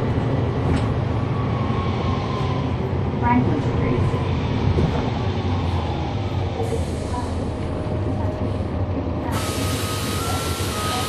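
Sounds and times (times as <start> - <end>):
bus diesel engine drone: 0.0 - 11.0.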